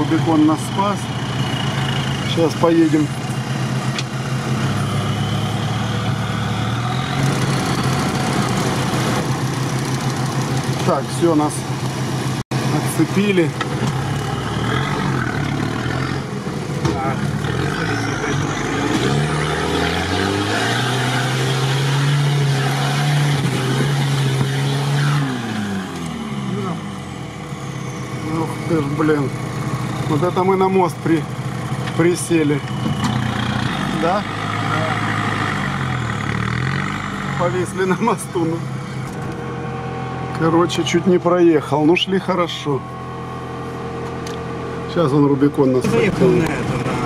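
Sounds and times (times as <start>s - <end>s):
vehicle engine running at low revs: 0.0s - 47.0s.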